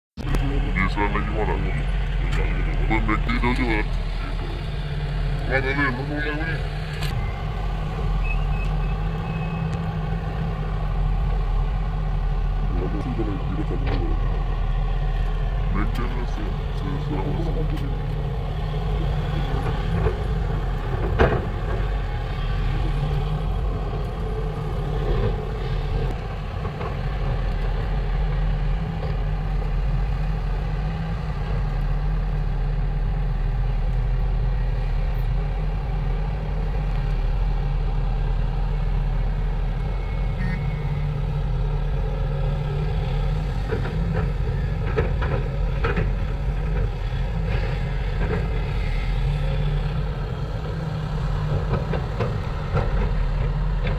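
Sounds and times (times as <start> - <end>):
excavator diesel engine running: 0.2 - 53.9.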